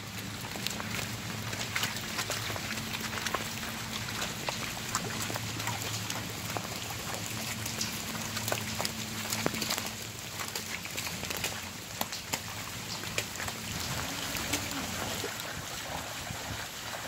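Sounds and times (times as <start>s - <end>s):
raindrops ticking on surfaces: 0.0s - 17.0s
steady rain: 0.0s - 17.0s.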